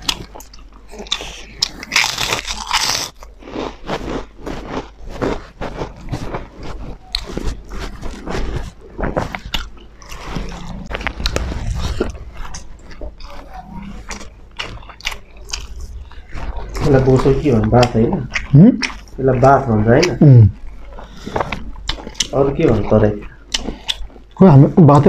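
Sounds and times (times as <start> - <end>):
chewing: 0.0 - 25.0
crunching fried food: 0.0 - 25.0.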